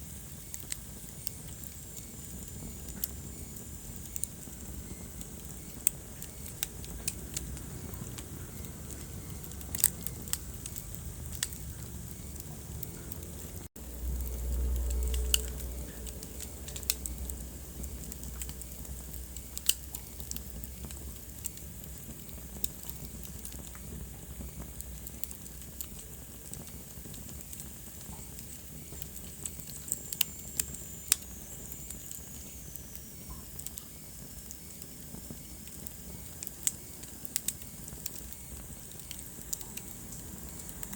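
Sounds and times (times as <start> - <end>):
fire low rumble: 0.0 - 40.9
wood fire crackling and popping: 0.0 - 40.9.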